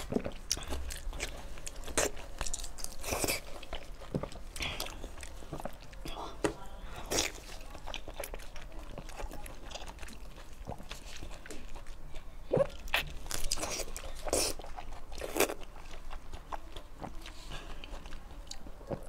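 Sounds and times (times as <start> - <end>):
biting and chewing meat: 0.0 - 6.4, 7.0 - 19.0.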